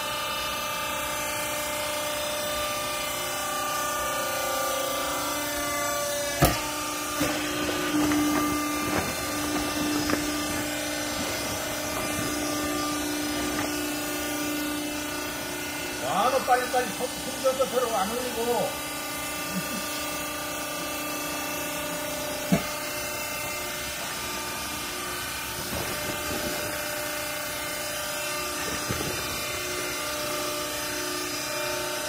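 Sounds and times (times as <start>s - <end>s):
baler machine hum: 0.0s - 32.0s.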